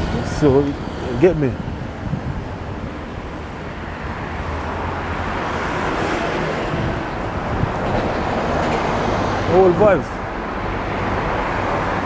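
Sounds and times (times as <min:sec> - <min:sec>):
car passing: 0:00.0 - 0:12.0
road traffic noise: 0:00.0 - 0:12.0.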